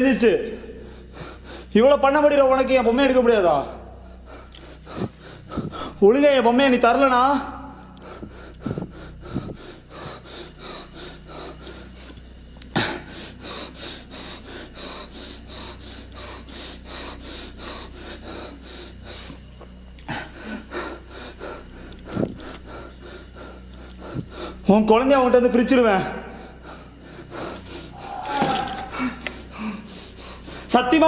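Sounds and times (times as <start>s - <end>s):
man breathing hard: 0.6s - 1.8s, 3.6s - 6.1s, 7.7s - 24.7s, 26.0s - 30.8s.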